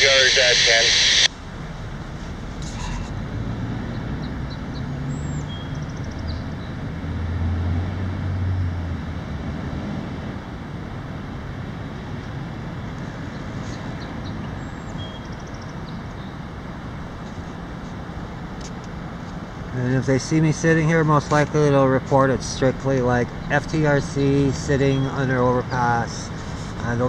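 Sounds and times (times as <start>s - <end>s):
passing vehicle engine drone: 0.0s - 14.7s, 16.5s - 27.0s
road traffic noise: 0.0s - 27.0s.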